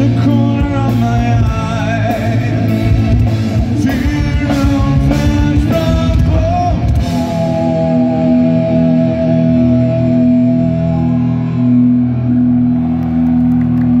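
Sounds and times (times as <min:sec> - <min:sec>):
ringing electric guitar chords: 0:00.0 - 0:14.0.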